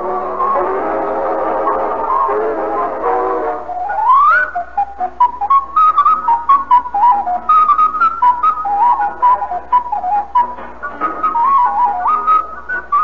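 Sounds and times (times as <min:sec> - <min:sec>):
whistle-like novelty tune: 0:00.0 - 0:13.0.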